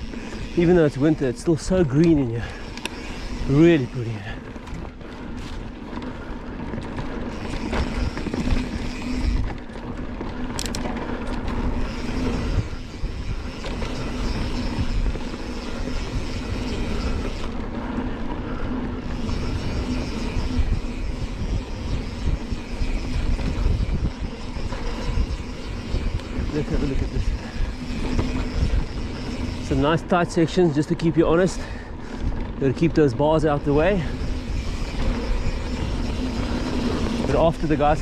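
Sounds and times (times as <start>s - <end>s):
bike rattling: 0.0s - 38.0s
bike tyres rolling on dirt: 0.0s - 38.0s
wind buffeting microphone: 0.0s - 38.0s.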